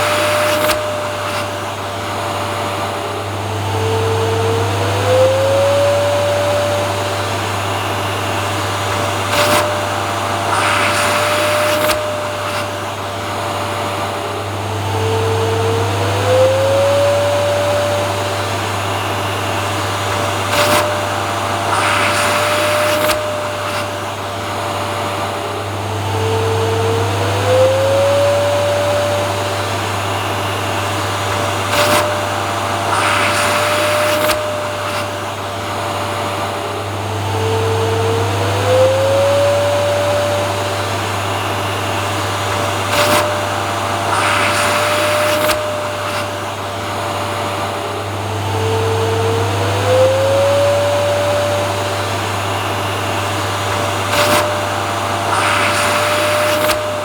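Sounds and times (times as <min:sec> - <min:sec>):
hissy air surges: 0:00.0 - 0:57.0
vacuum cleaner running: 0:00.0 - 0:57.0.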